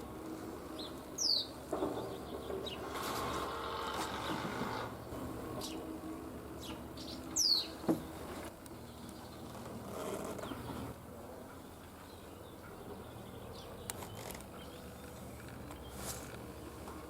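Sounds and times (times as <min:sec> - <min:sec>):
small birds chirping: 0:00.0 - 0:05.9, 0:06.5 - 0:17.0
low steady hum: 0:00.0 - 0:17.0.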